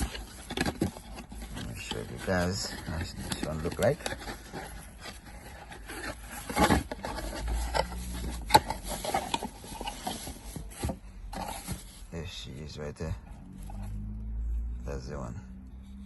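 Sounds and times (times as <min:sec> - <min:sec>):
packaging rustling and scraping: 0:00.0 - 0:13.9.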